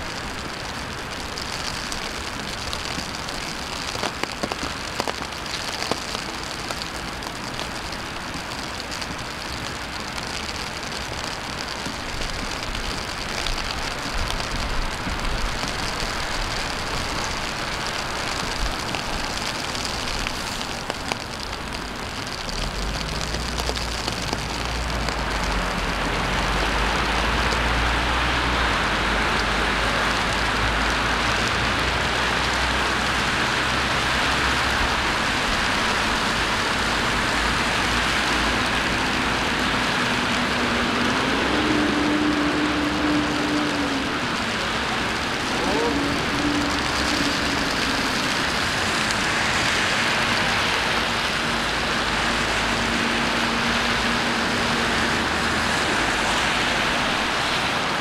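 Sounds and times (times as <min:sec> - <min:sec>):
rain drop ticks: 0:00.0 - 0:58.0
rain falling: 0:00.0 - 0:58.0
tyres hissing on wet road: 0:00.0 - 0:58.0
vehicle engine rumble: 0:00.0 - 0:58.0.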